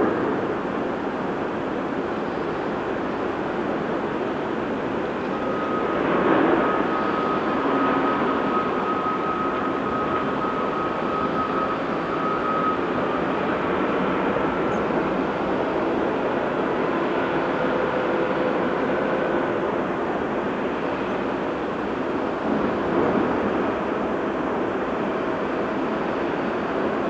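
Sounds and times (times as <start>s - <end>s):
diesel machinery running: 0.0s - 27.0s
thin steady whine: 0.0s - 27.0s.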